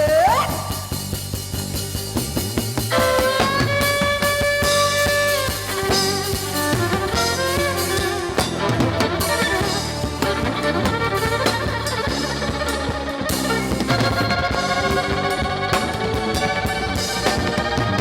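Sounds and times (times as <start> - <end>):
drum kit beat: 0.0 - 18.0
live band playing: 0.0 - 18.0.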